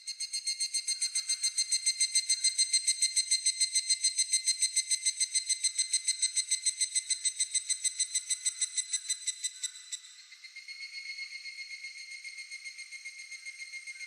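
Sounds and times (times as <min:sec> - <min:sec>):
evening cicada calling: 0:00.2 - 0:14.0.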